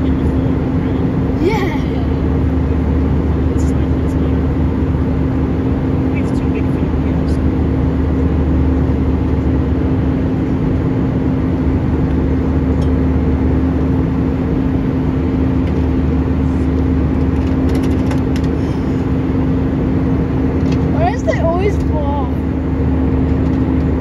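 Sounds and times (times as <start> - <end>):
jet cabin engine and airflow noise: 0.0 - 24.0.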